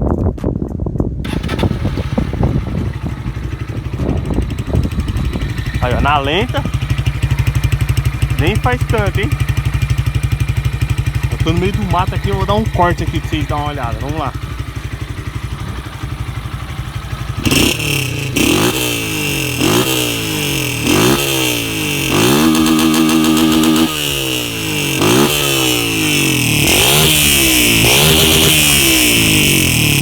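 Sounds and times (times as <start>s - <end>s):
motorcycle engine revving: 1.2s - 30.0s.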